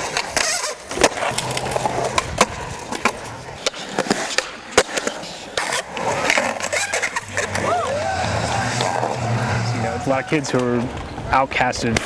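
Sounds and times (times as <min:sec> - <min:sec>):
skateboard clacking: 0:00.0 - 0:12.0
skateboard wheels rolling: 0:00.0 - 0:12.0.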